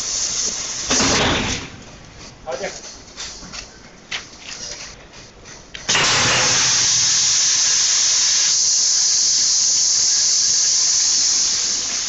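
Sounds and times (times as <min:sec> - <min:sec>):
compressed air jets hissing: 0:00.0 - 0:03.6, 0:05.1 - 0:12.0.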